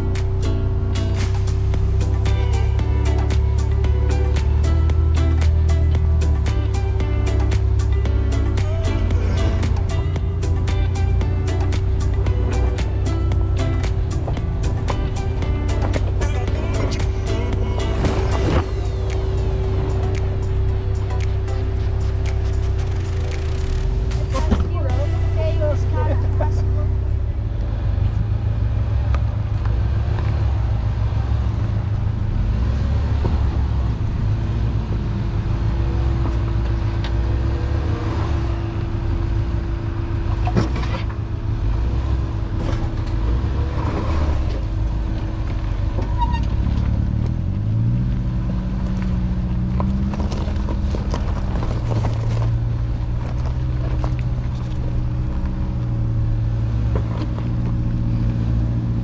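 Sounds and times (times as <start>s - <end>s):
car engine running at low speed: 0.0s - 59.0s.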